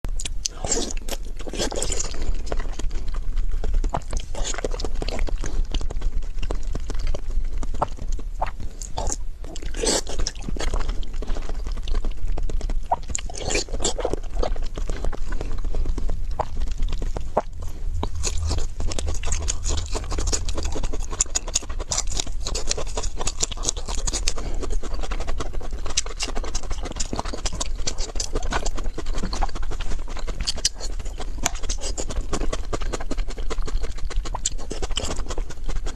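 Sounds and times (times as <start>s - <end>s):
person chewing food: 0.1s - 35.9s
steady low hum: 0.1s - 35.9s.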